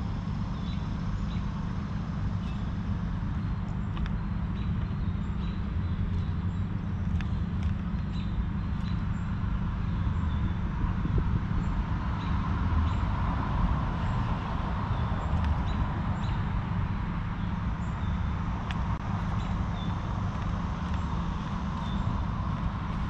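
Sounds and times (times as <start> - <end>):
low rumble of distant traffic: 0.0 - 23.0.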